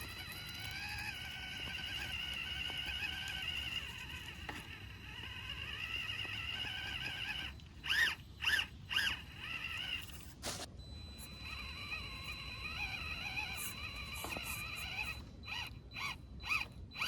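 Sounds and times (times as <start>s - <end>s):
electric motor whining: 0.0s - 10.4s, 11.1s - 17.0s.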